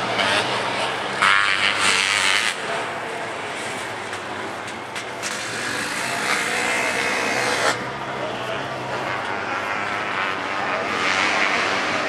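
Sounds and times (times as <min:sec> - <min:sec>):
motocross engines running: 0:00.0 - 0:12.0.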